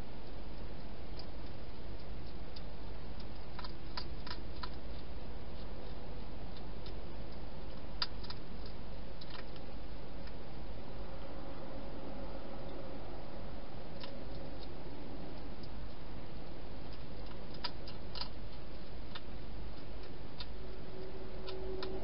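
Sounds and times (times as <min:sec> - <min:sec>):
hedgehog eating clicks: 0:00.0 - 0:10.5, 0:13.8 - 0:22.0
steady hiss and low hum: 0:00.0 - 0:22.0.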